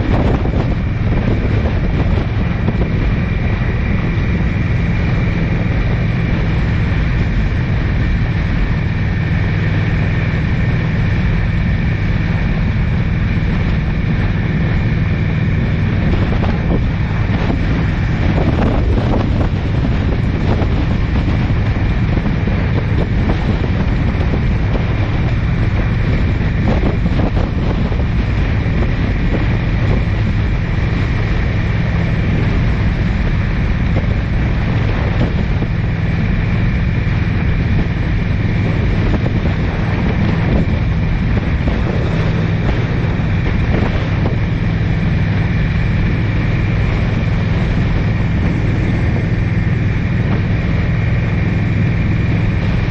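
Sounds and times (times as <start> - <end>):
car engine drone: 0.0 - 52.9
road noise: 0.0 - 52.9
wind on microphone: 0.0 - 52.9.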